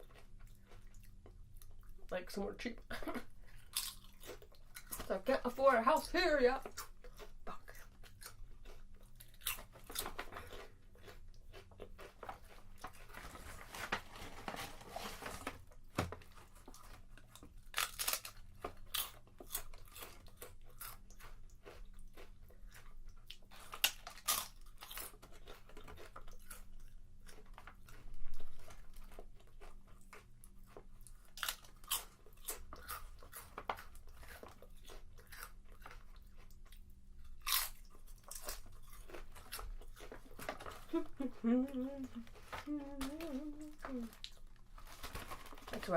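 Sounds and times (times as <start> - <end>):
person chewing potato chips: 0.0 - 45.9.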